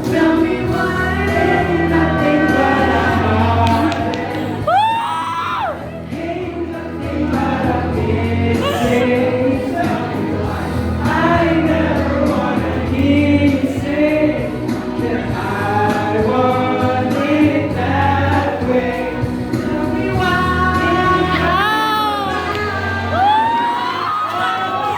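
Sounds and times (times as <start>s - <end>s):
steady bass line: 0.0s - 23.9s
voices singing together: 0.0s - 24.9s.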